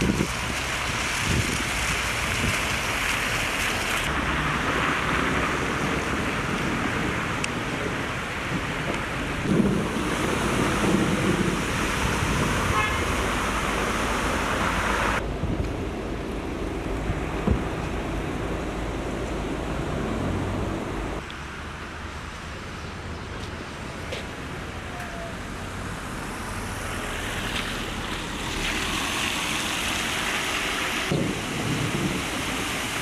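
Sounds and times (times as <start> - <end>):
heavy rain pouring: 0.0 - 21.2, 25.7 - 33.0
wind rumbling on microphone: 0.0 - 21.4, 25.1 - 33.0.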